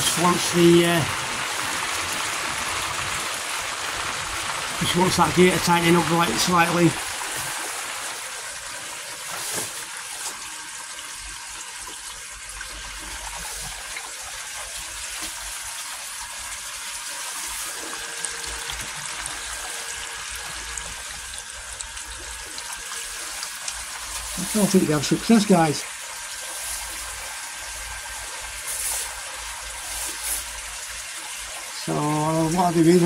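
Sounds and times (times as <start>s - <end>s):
water rushing through pond filter: 0.0s - 33.0s.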